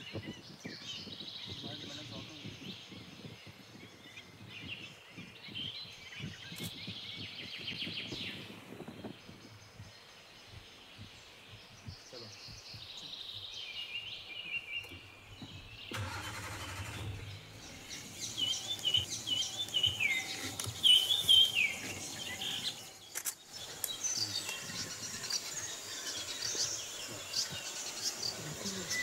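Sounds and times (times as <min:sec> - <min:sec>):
outdoor background noise: 0:00.0 - 0:29.0
wild birds chirping: 0:00.0 - 0:29.0.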